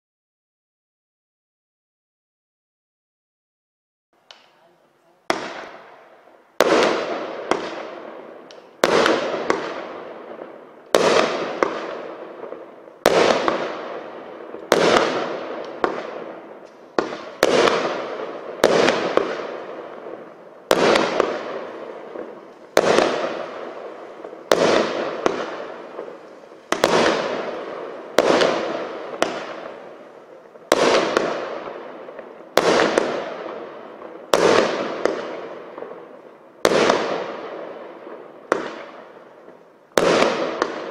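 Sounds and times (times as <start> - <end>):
firework cake bangs: 6.6 - 30.0, 30.6 - 39.0, 39.9 - 40.9.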